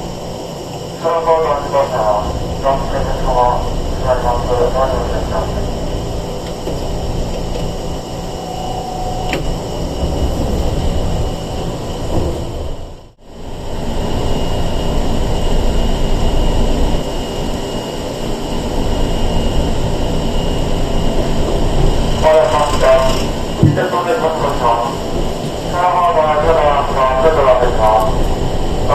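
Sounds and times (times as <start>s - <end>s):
train wheels and motors rumbling: 0.0s - 28.9s.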